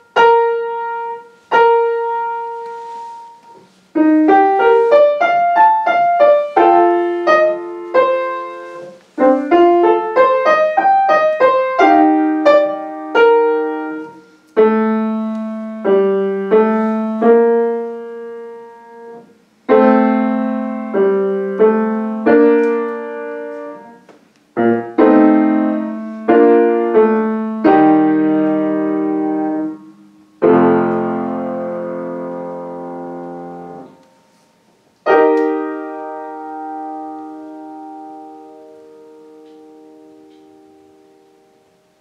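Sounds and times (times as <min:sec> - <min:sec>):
grand piano playing: 0:00.0 - 0:34.4, 0:35.0 - 0:42.0.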